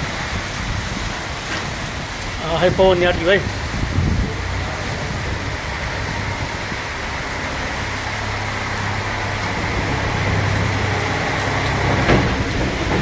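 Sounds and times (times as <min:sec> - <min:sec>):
heavy rain: 0:00.0 - 0:13.0
tractor engine hum: 0:00.0 - 0:13.0.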